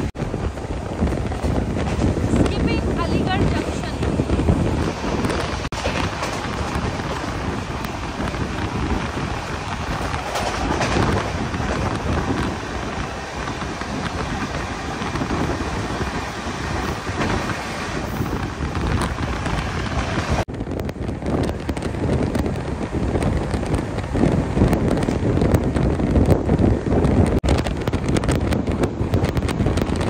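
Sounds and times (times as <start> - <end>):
train running at speed: 0.0 - 30.0.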